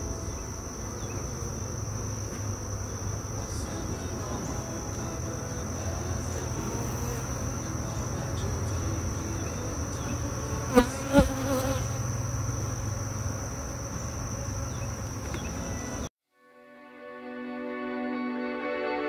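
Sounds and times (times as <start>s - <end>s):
bees buzzing: 0.0s - 16.1s.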